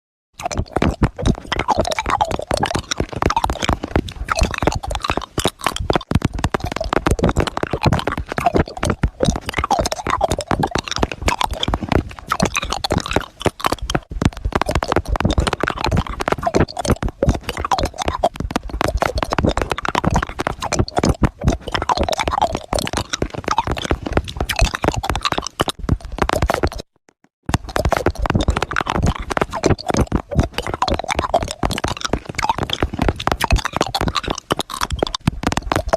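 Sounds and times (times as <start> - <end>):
hard candy clicking against teeth: 0.4 - 26.9, 27.6 - 35.9.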